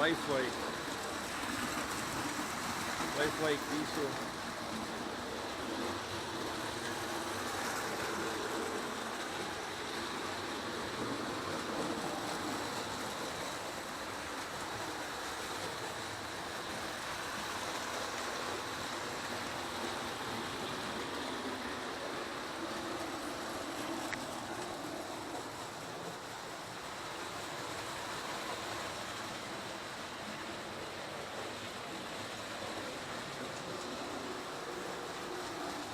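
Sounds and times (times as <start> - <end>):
model trains running on track: 0.0 - 35.9.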